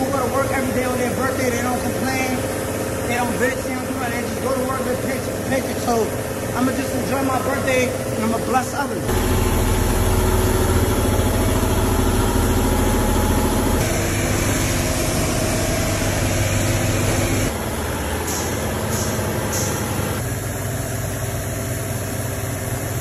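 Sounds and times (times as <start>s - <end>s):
car wash machinery hum: 0.0s - 23.0s.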